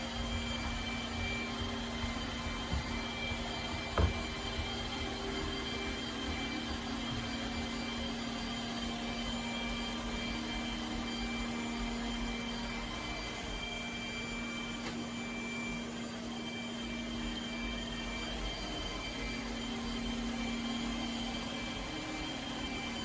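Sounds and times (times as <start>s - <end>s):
robot vacuum motor whir: 0.0s - 23.0s.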